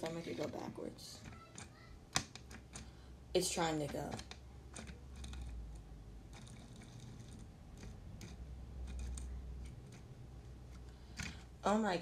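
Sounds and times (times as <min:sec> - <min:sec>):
fingers clicking on plastic: 0:00.0 - 0:03.0, 0:03.6 - 0:11.5.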